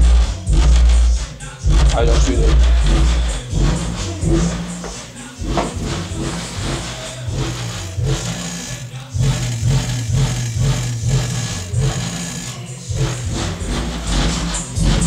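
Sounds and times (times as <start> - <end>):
bass-heavy music through subwoofer: 0.0 - 15.0.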